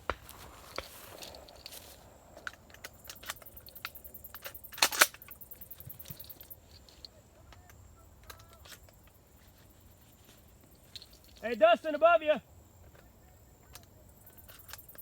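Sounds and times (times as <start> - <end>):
cicadas buzzing: 0.0 - 15.0
handling clicks and rattles: 0.6 - 9.2, 10.6 - 12.0, 12.9 - 15.0.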